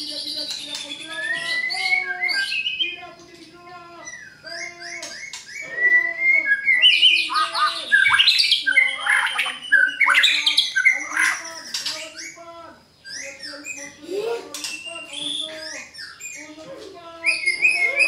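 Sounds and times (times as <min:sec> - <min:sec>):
bird singing whistles and trills: 0:00.0 - 0:12.4, 0:13.0 - 0:18.0.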